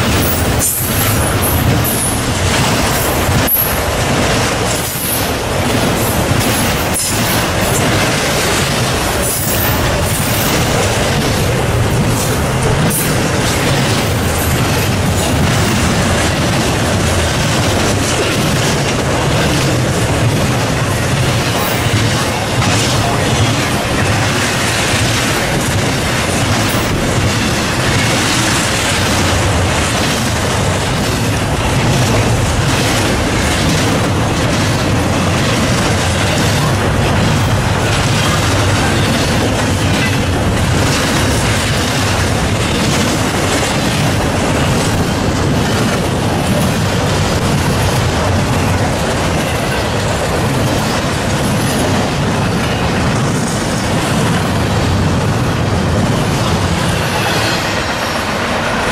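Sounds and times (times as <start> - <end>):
freight train rolling: 0.0 - 58.9
wheels clicking over rail joints: 0.0 - 58.9.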